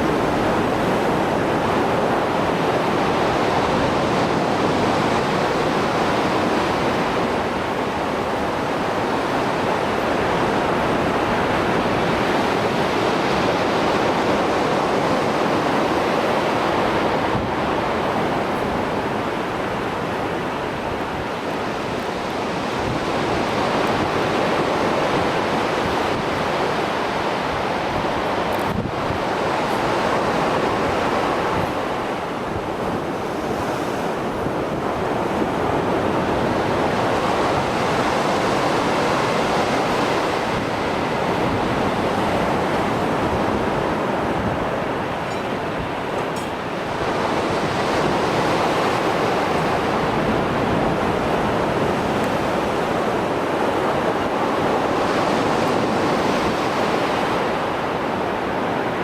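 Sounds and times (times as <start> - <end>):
sea waves breaking ashore: 0.0 - 59.0.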